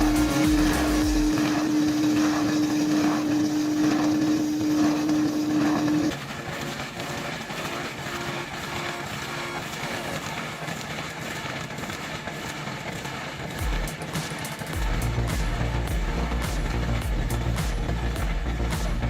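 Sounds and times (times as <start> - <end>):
heavy machine whining: 0.0 - 19.0
rough engine noise: 0.0 - 19.0.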